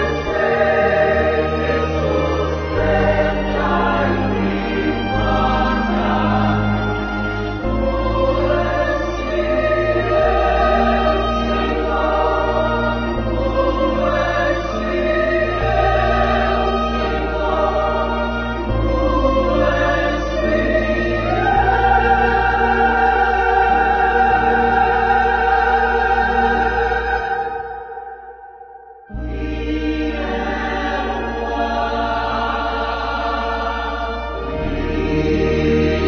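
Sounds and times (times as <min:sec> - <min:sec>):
choir singing held chords: 0:00.0 - 0:36.0
sustained accompaniment: 0:00.0 - 0:36.0.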